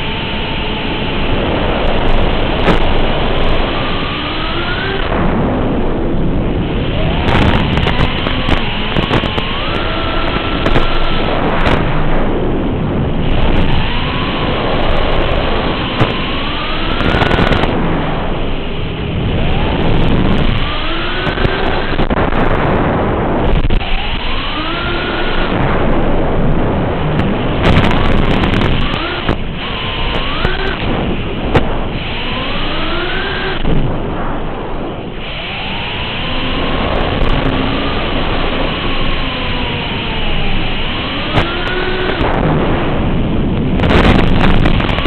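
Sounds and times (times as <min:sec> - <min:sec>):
drone motors whining: 0:00.0 - 0:45.0
heavy rushing noise: 0:00.0 - 0:45.0
static crackles: 0:00.0 - 0:45.0.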